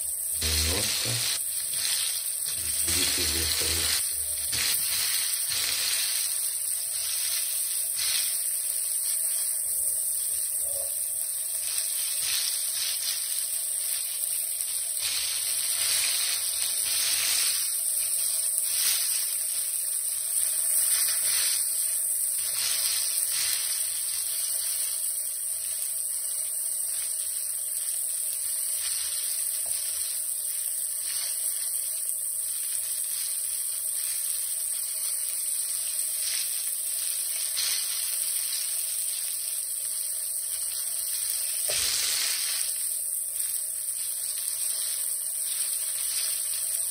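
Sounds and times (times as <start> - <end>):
fish sizzling in frying pan: 0.0 - 46.9.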